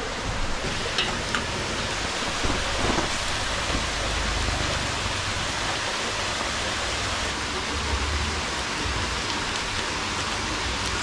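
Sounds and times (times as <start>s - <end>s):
rushing water hiss: 0.0s - 11.0s.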